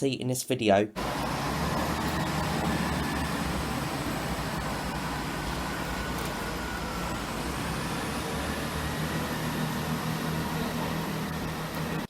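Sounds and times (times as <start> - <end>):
diesel train engine hum: 1.0 - 12.0
faint high whine: 1.0 - 12.0.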